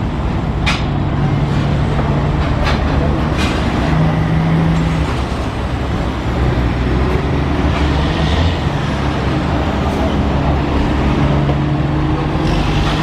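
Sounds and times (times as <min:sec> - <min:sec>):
heavy vehicle engine rumble: 0:00.0 - 0:13.0
road traffic: 0:00.0 - 0:13.0.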